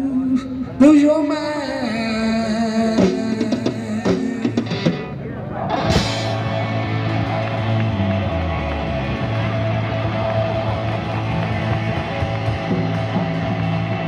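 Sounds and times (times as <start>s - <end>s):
live rock band playing: 2.0s - 14.0s.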